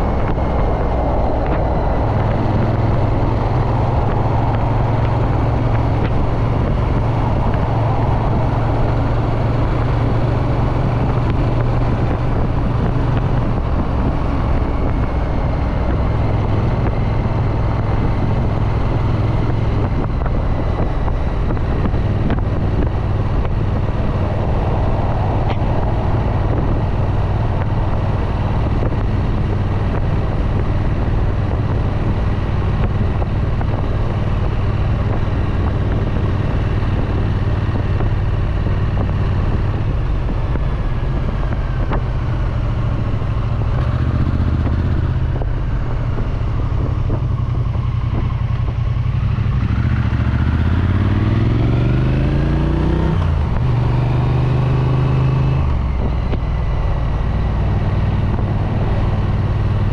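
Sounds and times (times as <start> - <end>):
motorcycle engine running: 0.0 - 59.9
wind rush over microphone: 0.0 - 59.9.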